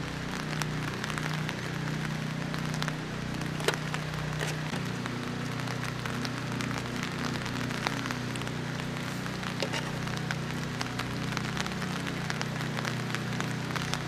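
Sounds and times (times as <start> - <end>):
rain falling: 0.0 - 14.0
sharp ticks of drips: 0.0 - 14.0
steady low hum: 0.0 - 14.0.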